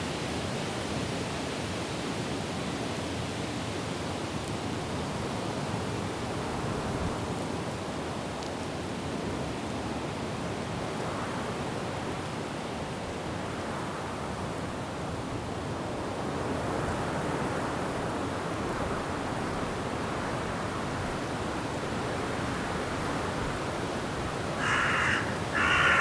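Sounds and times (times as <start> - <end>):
wind blowing through trees: 3.7 - 26.0.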